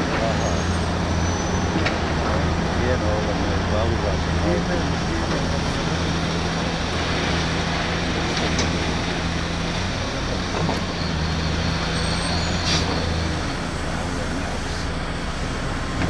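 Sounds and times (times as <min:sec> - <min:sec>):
heavy diesel machinery drone: 0:00.0 - 0:16.0.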